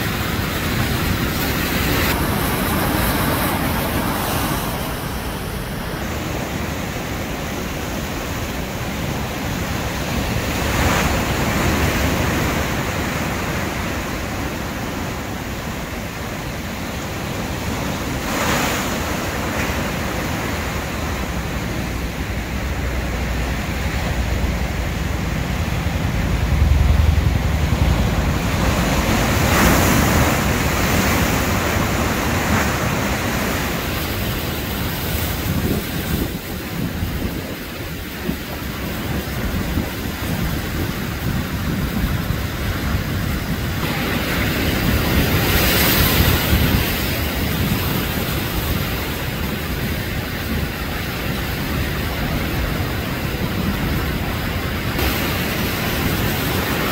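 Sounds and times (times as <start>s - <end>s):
surf washing on rocks: 0.0s - 56.9s
waves crashing on rocks: 0.0s - 56.9s.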